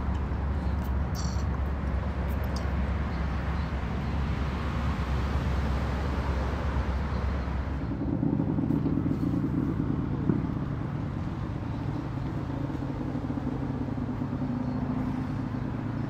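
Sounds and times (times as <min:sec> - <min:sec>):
engines rumbling: 0:00.0 - 0:16.0.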